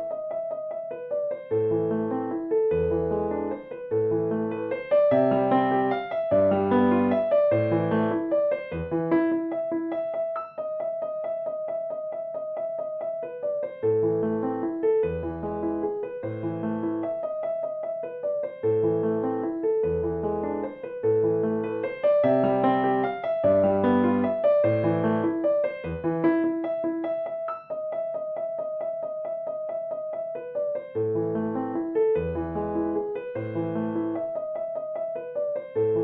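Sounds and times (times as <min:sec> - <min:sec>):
instrumental piano music: 0:00.0 - 0:36.0.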